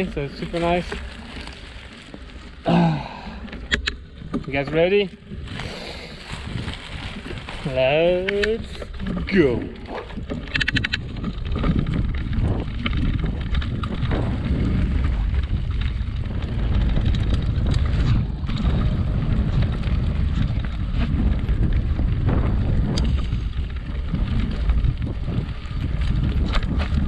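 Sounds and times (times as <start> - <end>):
bike tyres rattling and clicking: 0.0 - 27.0
wind rumbling on microphone: 0.0 - 27.0.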